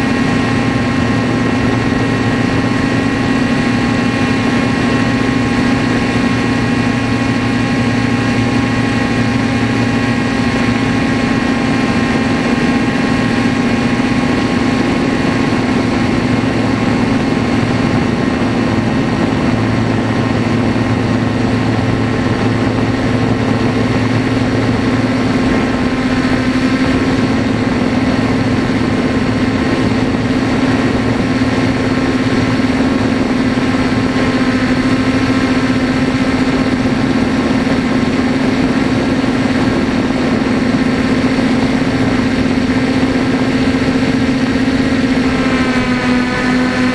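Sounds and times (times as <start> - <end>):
quadcopter motors humming: 0.0 - 46.9.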